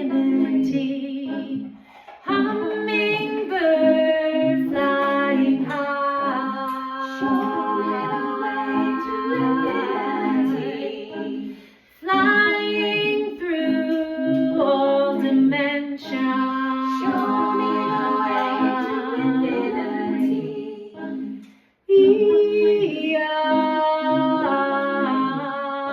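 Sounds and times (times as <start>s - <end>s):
woman singing: 0.0s - 21.1s, 21.9s - 25.9s.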